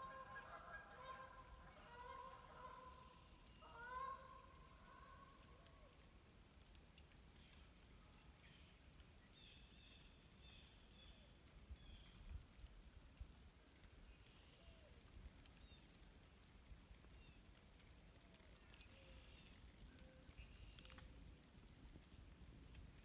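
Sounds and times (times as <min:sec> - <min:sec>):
soft ticks: 0:02.8 - 0:23.0.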